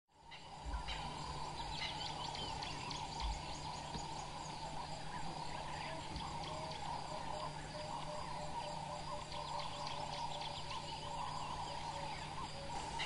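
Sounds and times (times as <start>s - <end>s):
insect drone: 0.1s - 13.0s
birds chirping and calling: 0.2s - 13.0s.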